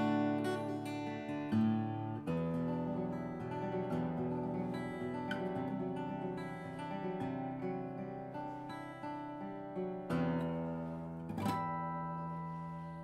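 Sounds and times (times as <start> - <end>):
acoustic guitar fingerpicked: 0.0 - 13.0
guitar chord strummed: 0.0 - 13.0.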